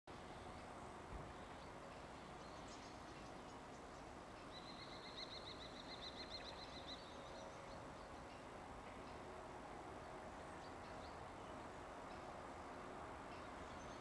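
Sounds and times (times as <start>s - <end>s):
faint outdoor background hiss: 0.1s - 14.0s.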